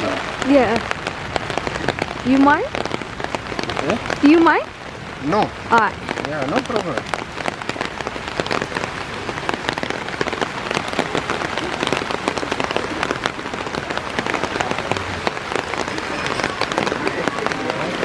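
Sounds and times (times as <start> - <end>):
patter of raindrops close by: 0.0 - 18.0
steady rain falling: 0.0 - 18.0.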